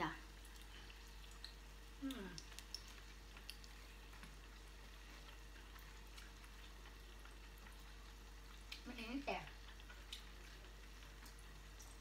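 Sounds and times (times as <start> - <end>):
small eating clicks: 0.2 - 12.0.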